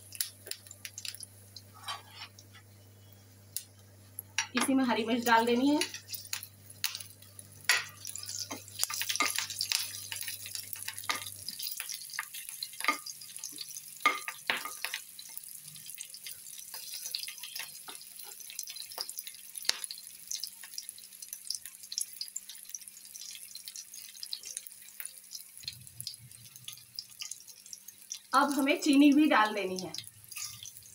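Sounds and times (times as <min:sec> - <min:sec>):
spices frying in hot oil: 0:00.0 - 0:30.9.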